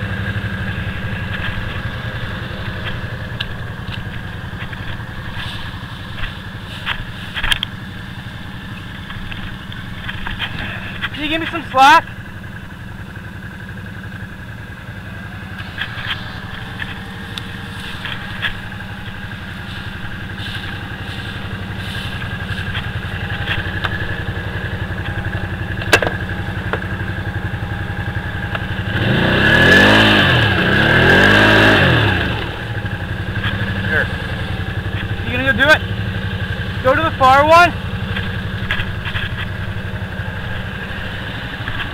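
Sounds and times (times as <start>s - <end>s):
quad bike engine idling and revving: 0.0s - 41.9s.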